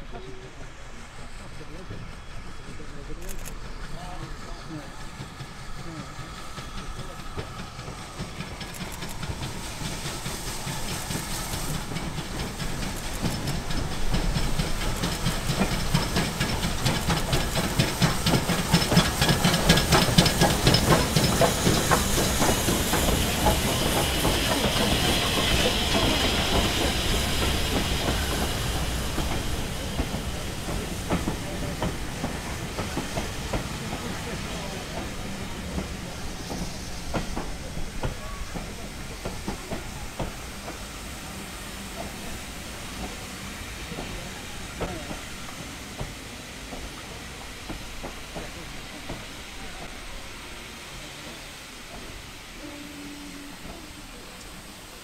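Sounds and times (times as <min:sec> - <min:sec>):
steam hissing: 0:00.0 - 0:55.0
steam locomotive passing: 0:00.0 - 0:55.0
train wheels clicking: 0:00.0 - 0:55.0.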